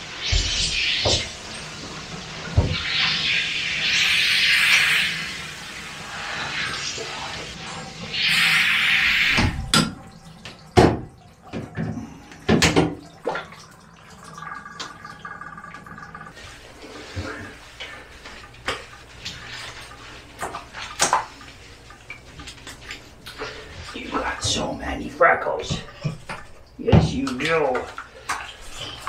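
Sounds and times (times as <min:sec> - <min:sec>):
water spraying into bathtub: 0:00.0 - 0:29.0.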